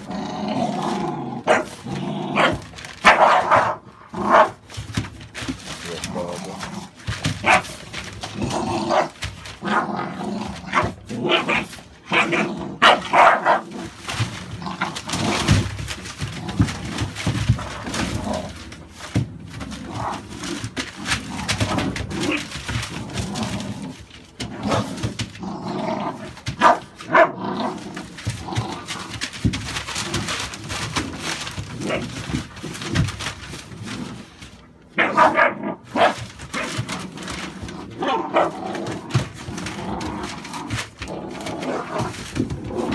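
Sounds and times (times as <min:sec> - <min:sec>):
puppies barking and growling: 0:00.0 - 0:42.9
steady rustling: 0:00.0 - 0:42.9.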